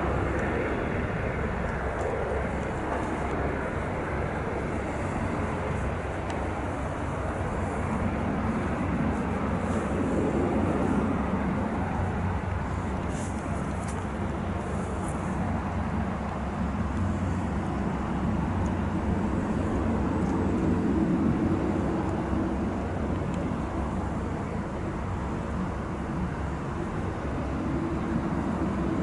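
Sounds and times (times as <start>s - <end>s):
turboprop engines running: 0.0s - 29.0s.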